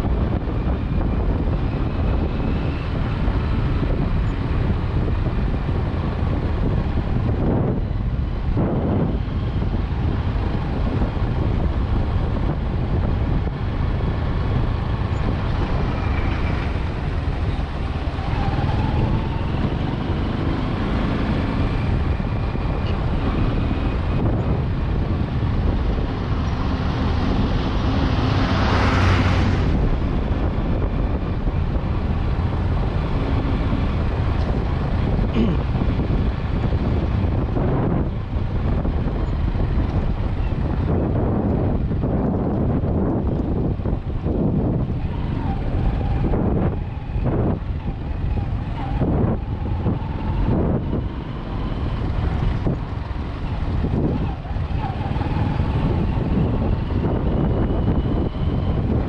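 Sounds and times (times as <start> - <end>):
vehicle engine and tyre noise: 0.0 - 59.0
wind buffeting microphone: 0.0 - 59.0.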